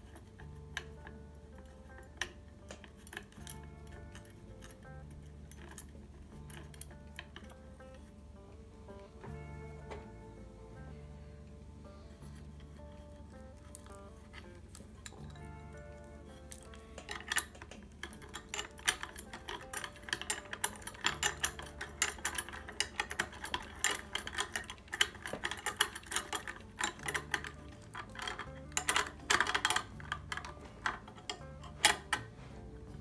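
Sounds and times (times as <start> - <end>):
background music with bass: 0.0 - 33.0
small metal clicks and clinks: 0.0 - 33.0.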